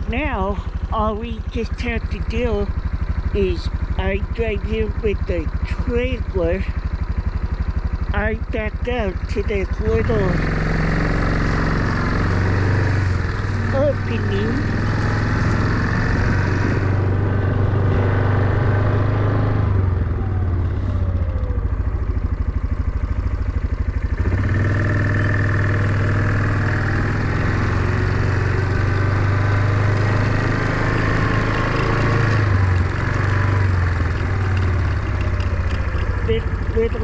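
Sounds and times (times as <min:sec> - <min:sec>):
small engine running: 0:00.0 - 0:37.0.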